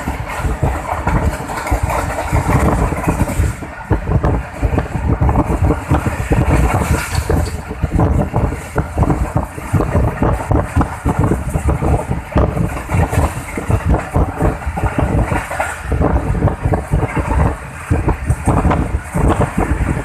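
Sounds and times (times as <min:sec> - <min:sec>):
train carriage rumbling and rattling: 0:00.0 - 0:20.0.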